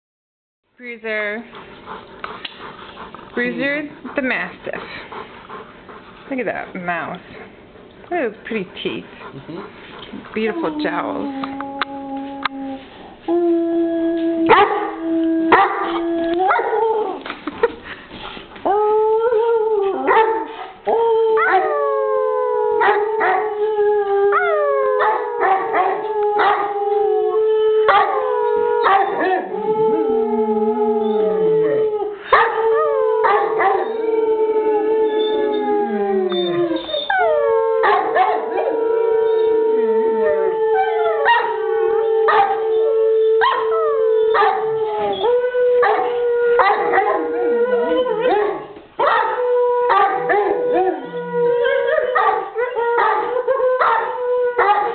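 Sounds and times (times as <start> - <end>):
dog howling: 9.4 - 17.3, 18.7 - 54.9.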